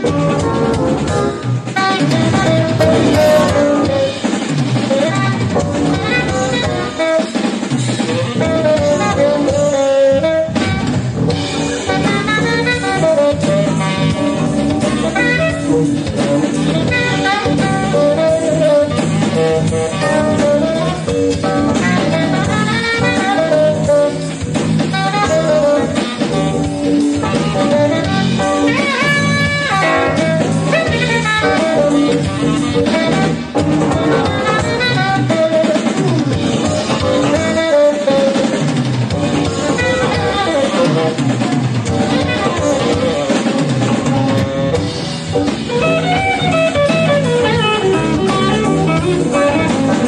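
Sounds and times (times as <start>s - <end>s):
electric bass: 0.0s - 7.0s, 7.7s - 50.0s
drum kit: 0.0s - 50.0s
guitar: 0.0s - 50.0s
keyboards: 0.0s - 50.0s
saxophone melody: 0.0s - 50.0s.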